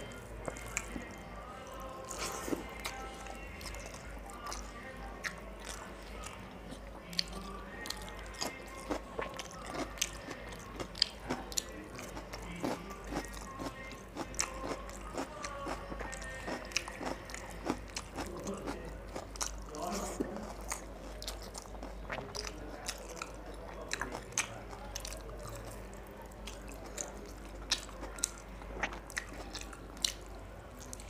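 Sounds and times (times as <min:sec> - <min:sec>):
faint background music: 0:00.0 - 0:31.0
person chewing food: 0:00.0 - 0:31.0.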